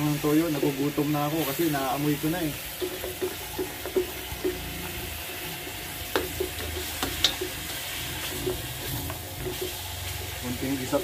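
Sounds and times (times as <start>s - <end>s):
meat sizzling in a wok: 0.0s - 11.0s
spatula scraping and knocking pan: 0.4s - 11.0s.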